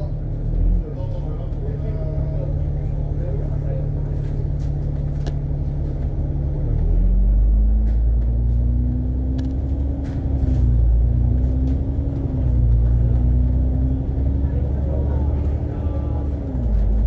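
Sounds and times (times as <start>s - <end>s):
bus engine accelerating: 0.0s - 17.0s
low rumble: 0.0s - 17.0s.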